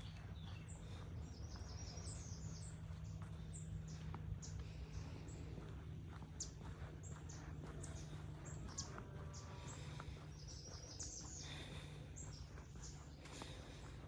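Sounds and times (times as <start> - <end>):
low background hum: 0.0 - 14.0
small birds chirping: 0.0 - 14.0.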